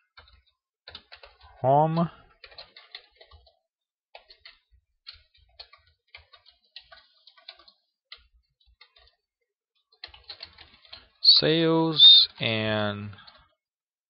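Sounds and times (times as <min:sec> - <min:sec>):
keyboard typing: 0:00.0 - 0:13.6.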